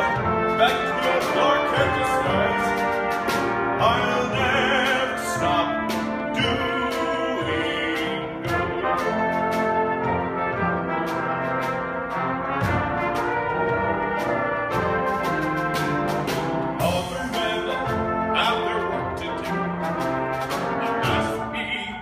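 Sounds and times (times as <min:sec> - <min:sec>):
percussion beat: 0:00.0 - 0:21.7
orchestral show tune with brass: 0:00.0 - 0:22.0.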